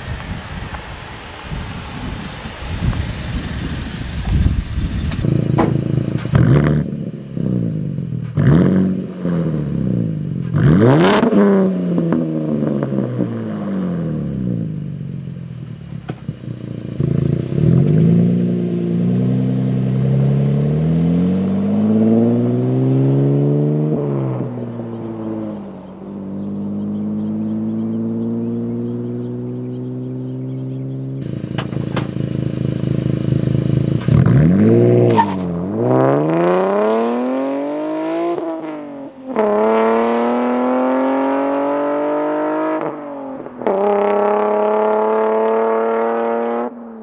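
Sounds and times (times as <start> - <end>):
car engine revving and accelerating: 2.9 - 14.9, 15.6 - 47.0.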